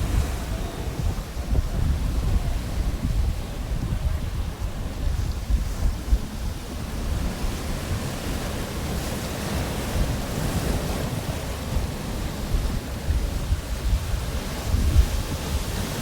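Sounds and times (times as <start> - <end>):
surf breaking on beach: 0.0 - 16.0
wind rumbling on microphone: 0.0 - 16.0.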